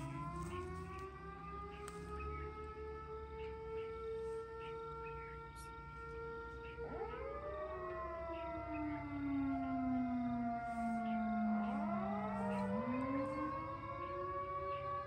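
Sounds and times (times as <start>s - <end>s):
sirens wailing: 0.0s - 15.0s.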